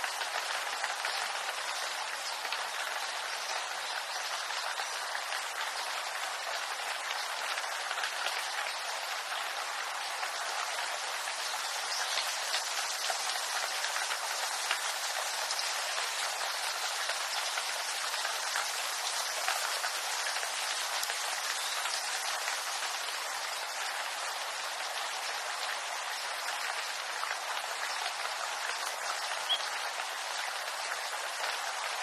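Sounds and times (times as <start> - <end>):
rain on leaves: 0.0 - 32.0.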